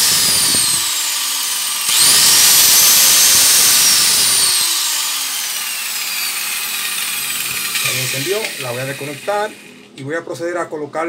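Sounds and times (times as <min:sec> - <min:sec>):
angle grinder motor whine: 0:00.0 - 0:10.0.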